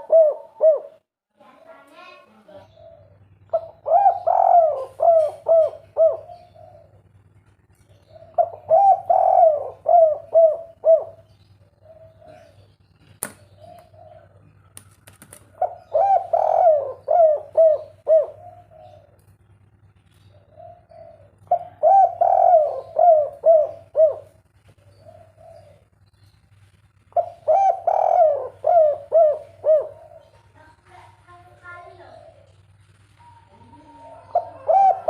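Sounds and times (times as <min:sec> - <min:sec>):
dove cooing: 0:00.0 - 0:01.0, 0:02.3 - 0:07.1, 0:08.0 - 0:14.8, 0:15.4 - 0:19.2, 0:20.2 - 0:26.0, 0:27.1 - 0:30.7, 0:31.6 - 0:35.0
steady low hum: 0:00.0 - 0:35.0.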